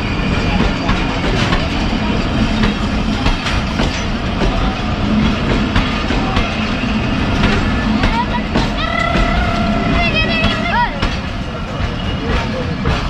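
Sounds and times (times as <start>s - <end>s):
train rumble: 0.0s - 13.0s
train wheels clicking over rail joints: 0.0s - 13.0s.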